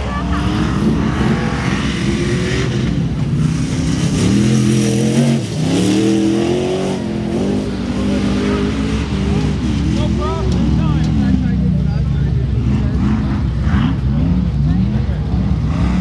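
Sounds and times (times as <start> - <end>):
truck engine revving hard: 0.0 - 16.0.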